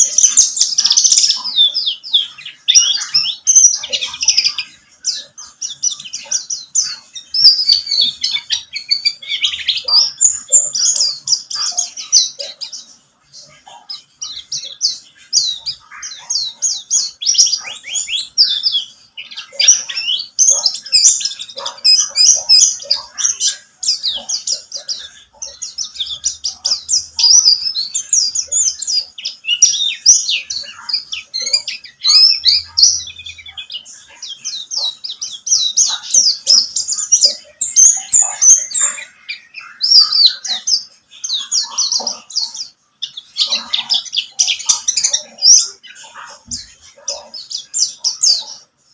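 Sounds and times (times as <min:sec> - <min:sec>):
bird singing chattering warble: 0:00.0 - 0:48.9.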